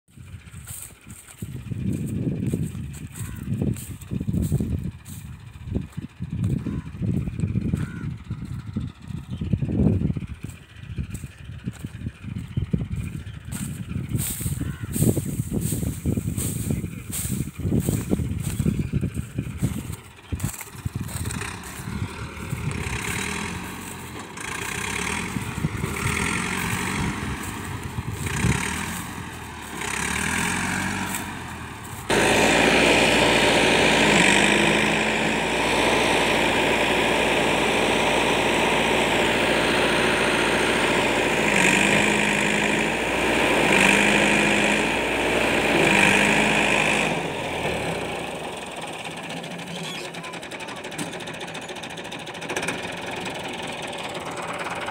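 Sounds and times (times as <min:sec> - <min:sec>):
tractor diesel engine revving: 0:00.1 - 0:54.9.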